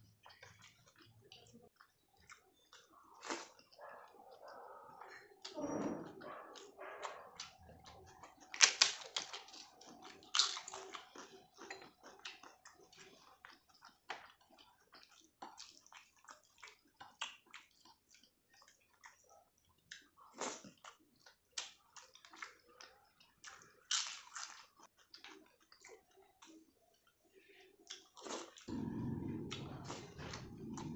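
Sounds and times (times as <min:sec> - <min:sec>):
close-up chewing: 0:00.0 - 0:05.6, 0:06.2 - 0:30.9.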